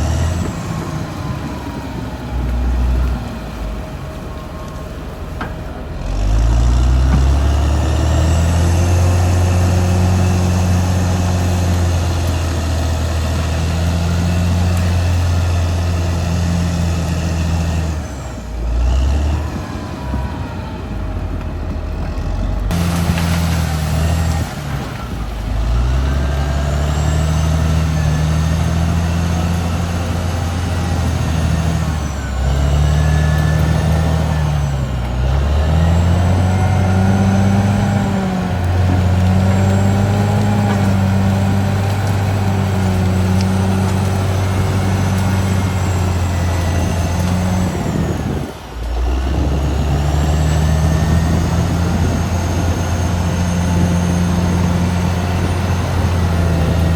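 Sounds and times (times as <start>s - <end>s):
bulldozer diesel engine working: 0.0s - 56.9s.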